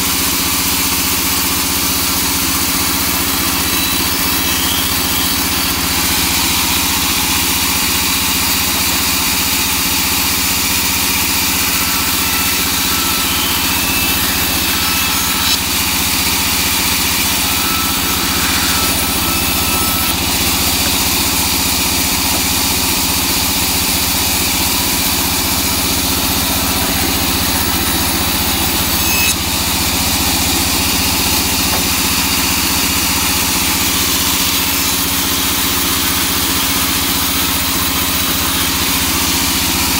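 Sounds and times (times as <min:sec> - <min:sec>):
bandsaw humming: 0:00.0 - 0:39.9
saw cutting wood hiss: 0:00.3 - 0:39.7.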